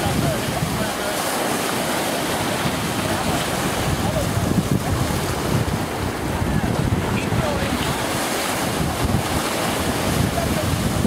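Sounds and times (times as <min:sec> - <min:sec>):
ocean surf: 0:00.0 - 0:11.0
wind buffeting microphone: 0:00.0 - 0:11.0.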